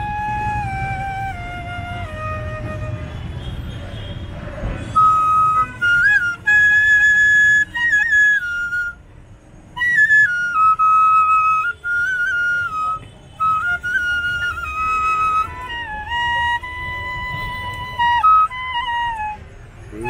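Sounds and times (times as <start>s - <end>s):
bamboo flute melody: 0.0s - 4.0s, 4.6s - 20.0s.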